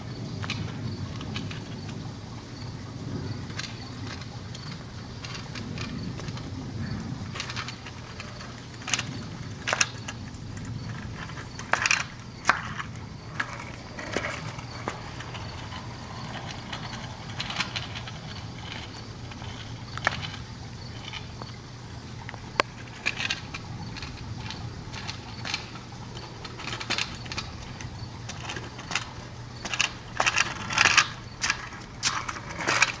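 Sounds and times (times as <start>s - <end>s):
scooter wheels rattling over asphalt: 0.0s - 33.0s.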